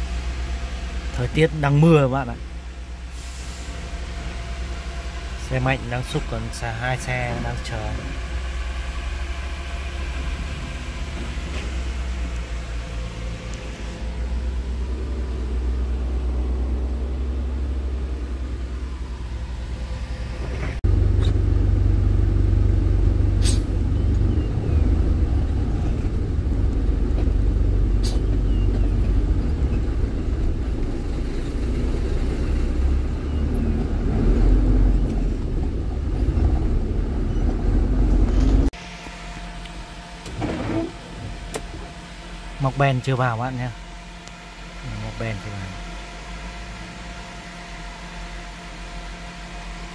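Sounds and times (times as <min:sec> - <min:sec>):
deep engine rumble: 0:00.0 - 0:49.8
diesel engines running: 0:00.0 - 0:49.9.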